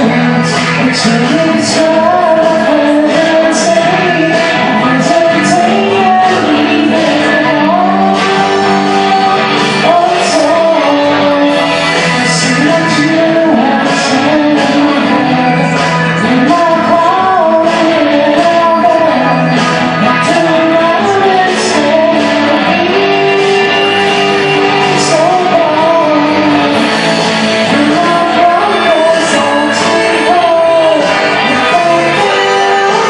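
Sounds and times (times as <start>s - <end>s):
person singing: 0.0s - 33.0s
rock band playing: 0.0s - 33.0s.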